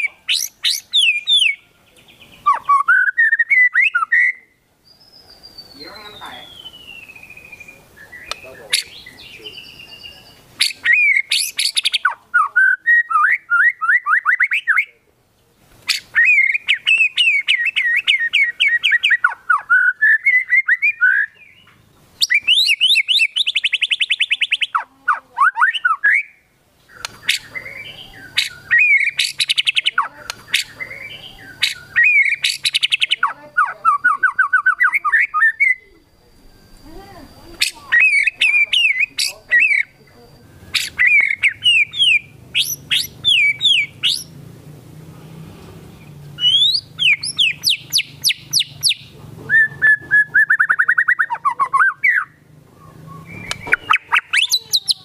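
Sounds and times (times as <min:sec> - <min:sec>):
songbird whistling song: 0:00.0 - 0:15.0, 0:15.8 - 0:44.4, 0:46.0 - 0:55.0.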